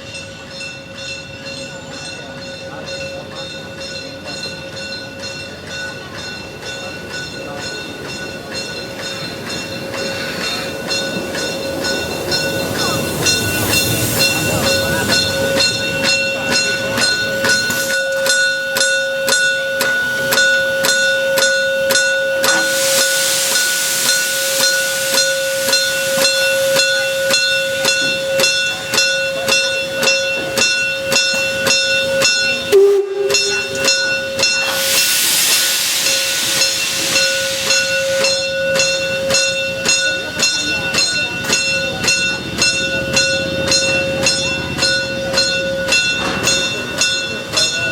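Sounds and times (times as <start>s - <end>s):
steam locomotive exhaust chuffs: 1.4s - 47.9s
steam hissing: 6.4s - 47.9s.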